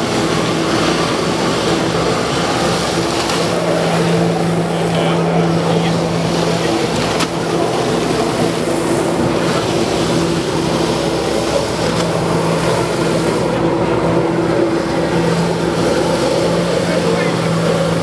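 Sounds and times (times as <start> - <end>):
watercraft engine hum: 0.0 - 18.0.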